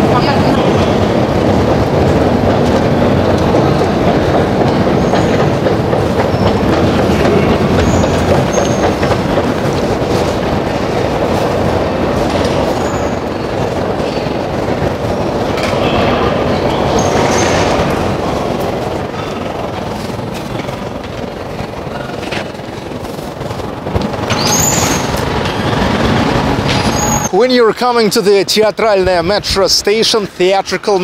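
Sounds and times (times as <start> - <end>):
escalator machinery rumble: 0.0 - 30.6.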